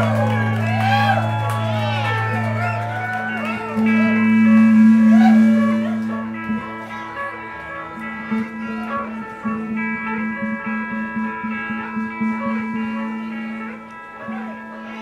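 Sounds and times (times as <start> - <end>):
amplified electric guitars: 0.0 - 15.0.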